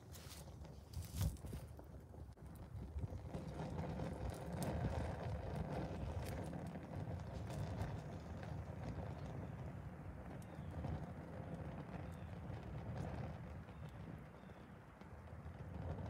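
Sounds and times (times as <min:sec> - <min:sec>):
low fluttering rumble of fire: 0:00.0 - 0:16.0
small flames crackling: 0:00.0 - 0:16.0.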